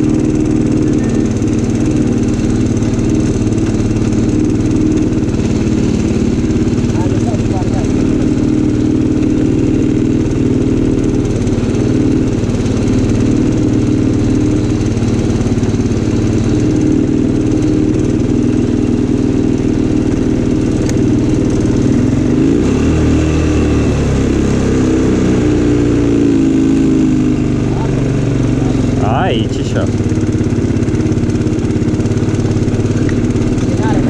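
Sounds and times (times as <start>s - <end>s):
deep engine rumble: 0.0s - 34.0s
quad bike engine running: 0.0s - 34.0s.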